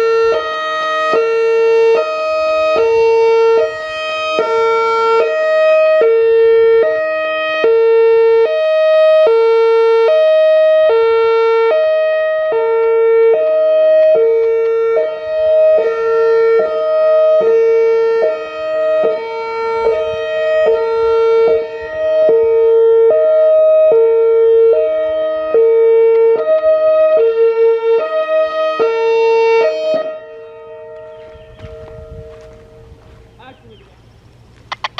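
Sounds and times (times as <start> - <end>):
two-tone warning siren: 0.0 - 34.9.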